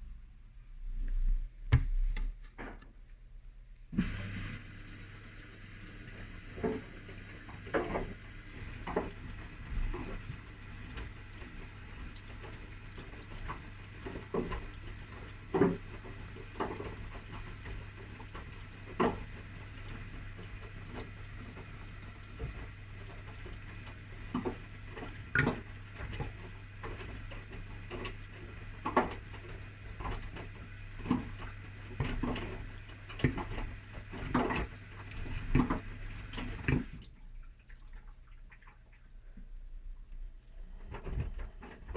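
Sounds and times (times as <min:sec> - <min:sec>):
washing machine motor hum: 0:00.0 - 0:41.9
laundry and water sloshing: 0:03.9 - 0:41.9.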